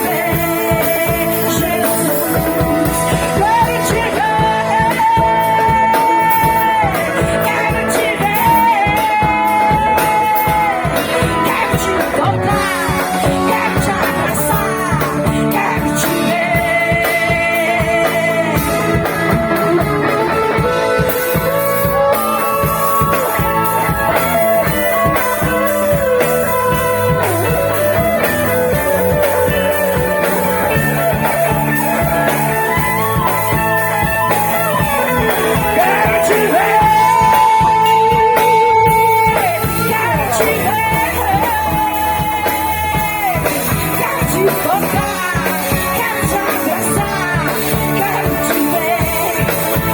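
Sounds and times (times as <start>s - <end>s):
live band playing: 0.0s - 49.9s
woman singing: 0.0s - 49.9s.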